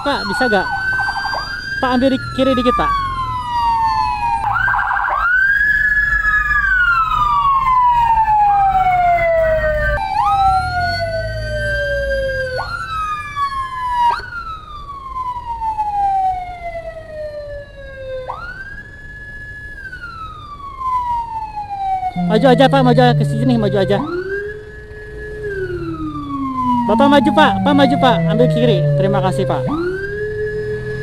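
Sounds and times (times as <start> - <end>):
emergency sirens wailing: 0.0 - 31.0
low vehicle engine rumble: 0.0 - 31.0.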